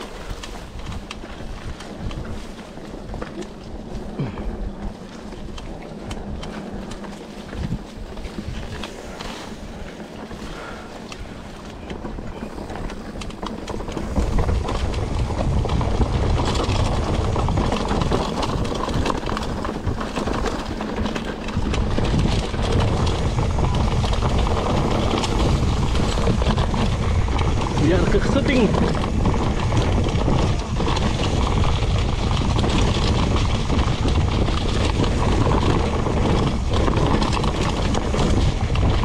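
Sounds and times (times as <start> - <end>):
bike rattling on rough trail: 0.0 - 39.0
wind on microphone: 0.0 - 39.0.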